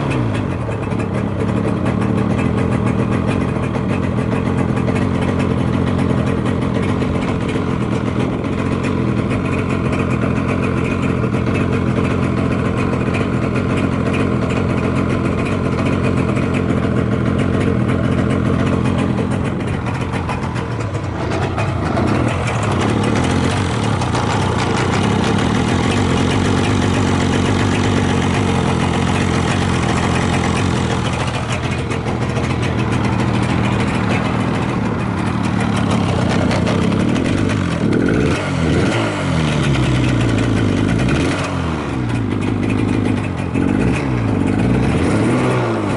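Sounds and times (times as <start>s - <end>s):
two-stroke engine idling and revving: 0.0s - 45.9s.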